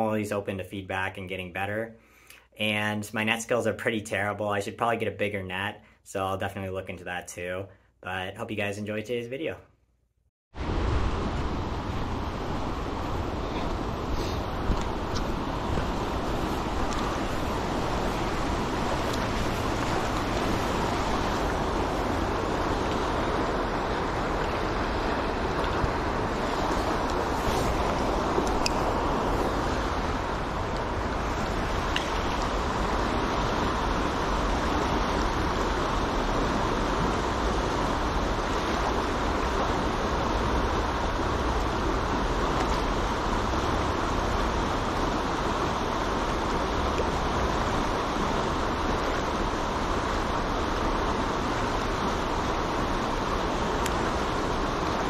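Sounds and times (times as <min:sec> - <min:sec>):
river water rushing: 0:10.6 - 0:55.0.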